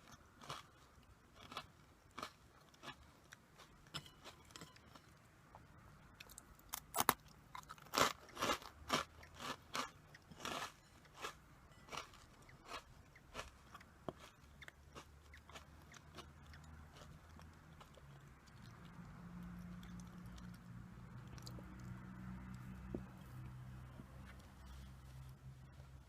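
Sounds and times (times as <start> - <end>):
crunchy snack chewing: 0.0 - 5.1, 6.2 - 22.6.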